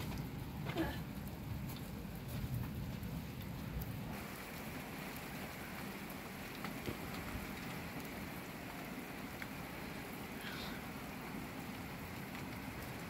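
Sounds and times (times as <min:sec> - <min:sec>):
light rain hissing: 0:00.0 - 0:13.0
rain ticks: 0:00.0 - 0:13.0.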